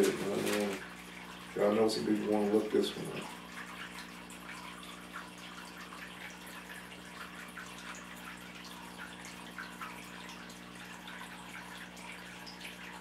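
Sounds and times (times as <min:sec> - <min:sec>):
trickling dripping water: 0:00.0 - 0:13.0.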